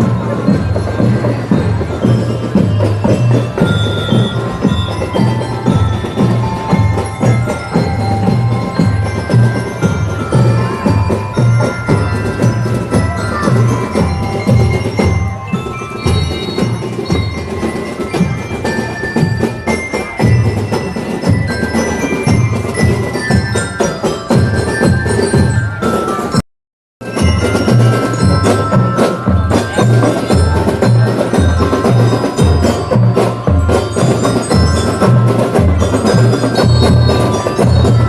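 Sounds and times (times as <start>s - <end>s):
bell lyres melody: 0.0s - 26.4s, 27.0s - 38.0s
marching band playing: 0.0s - 26.4s, 27.0s - 38.0s.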